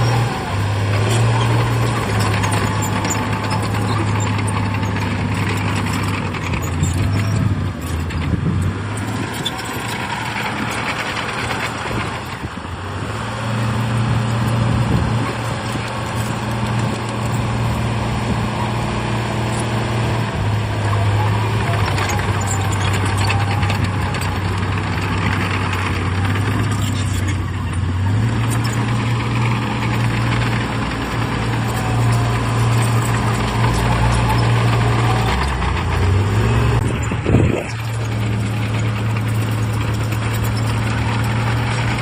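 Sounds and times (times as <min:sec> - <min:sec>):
machinery clatter: 0:00.0 - 0:12.6, 0:13.6 - 0:42.0
heavy diesel engine running: 0:00.0 - 0:42.0.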